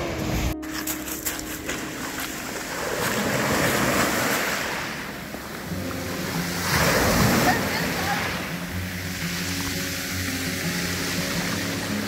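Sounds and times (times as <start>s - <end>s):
waves washing up shingle beach: 0.0s - 12.0s.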